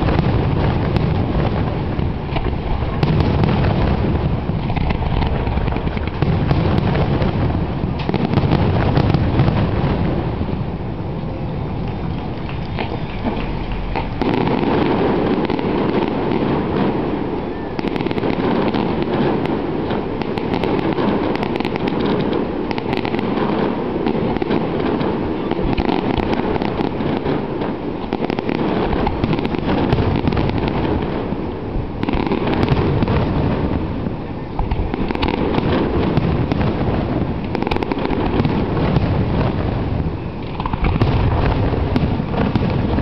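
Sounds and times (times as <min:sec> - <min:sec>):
firework shells bursting: 0:00.0 - 0:10.8, 0:11.7 - 0:43.0
dense crackling and pops: 0:00.0 - 0:43.0.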